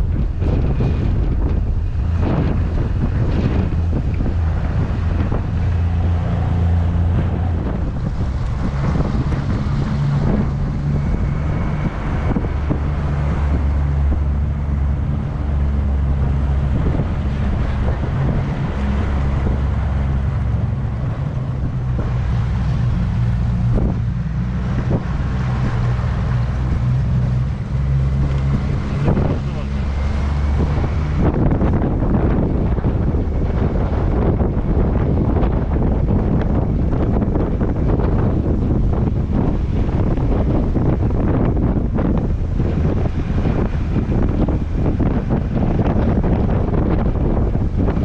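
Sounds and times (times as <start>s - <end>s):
outboard motor running: 0.0s - 48.0s
wind buffeting microphone: 0.0s - 48.0s.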